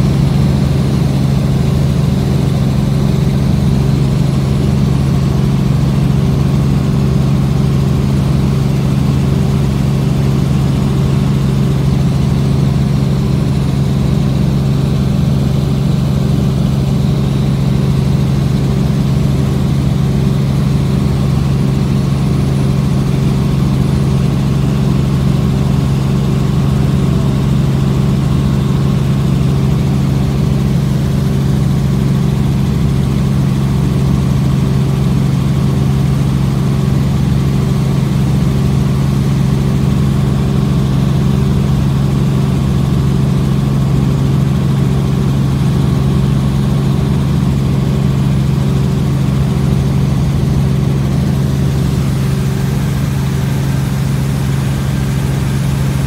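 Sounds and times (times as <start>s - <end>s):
helicopter engine and rotors drone: 0.0s - 56.0s.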